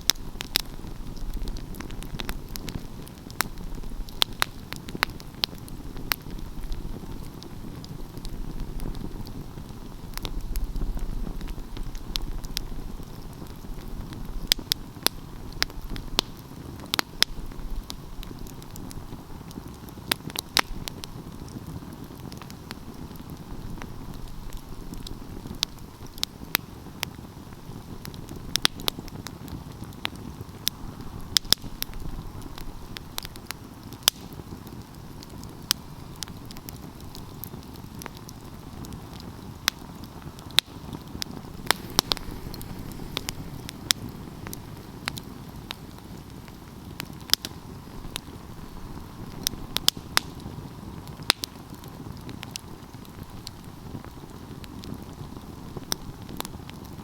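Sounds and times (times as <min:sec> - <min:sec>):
low rush of flames: 0:00.0 - 0:57.0
wood fire crackling: 0:00.0 - 0:57.0.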